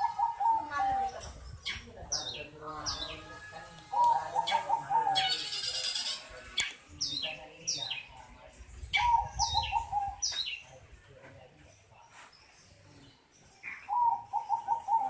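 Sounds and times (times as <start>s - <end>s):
bird chatter: 0.0s - 15.0s.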